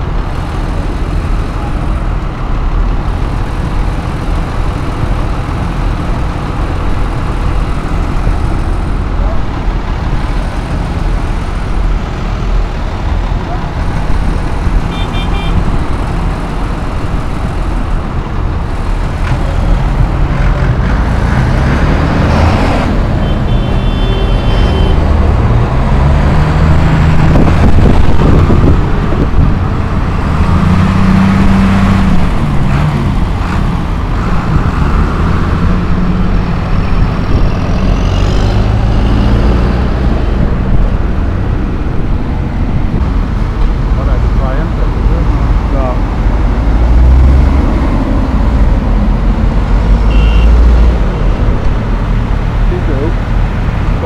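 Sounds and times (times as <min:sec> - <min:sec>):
tractor diesel engines running: 0:00.0 - 0:54.0.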